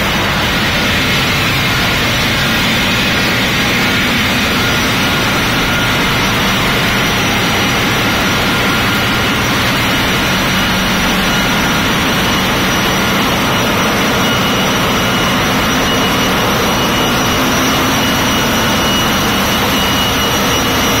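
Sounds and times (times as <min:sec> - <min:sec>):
engine-room machinery rumble: 0:00.0 - 0:21.0
thin machinery whines: 0:00.0 - 0:21.0.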